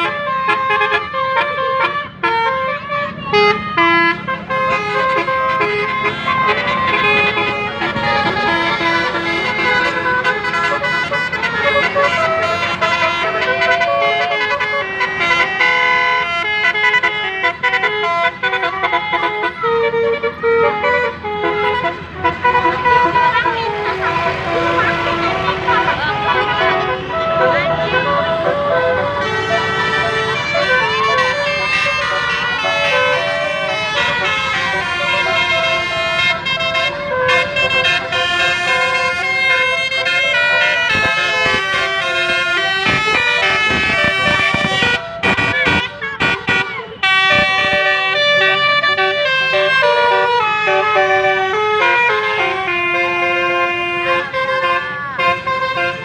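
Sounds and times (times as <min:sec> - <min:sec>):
melodic bus air horns: 0:00.0 - 0:56.0.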